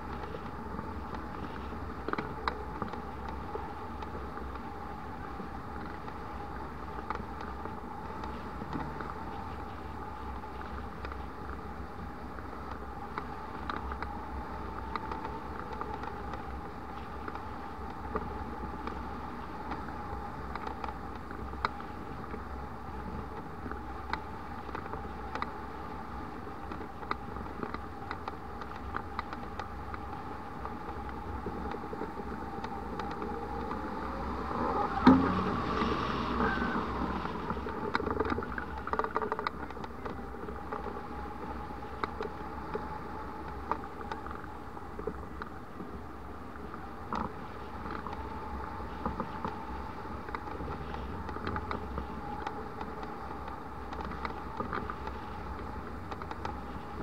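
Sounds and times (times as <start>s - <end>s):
airframe ticks and rattles: 0.0s - 57.0s.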